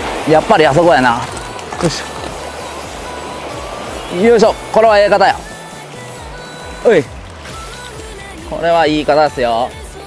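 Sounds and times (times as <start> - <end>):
background music: 0.0 - 10.0
fast-flowing river rushing: 0.0 - 10.0.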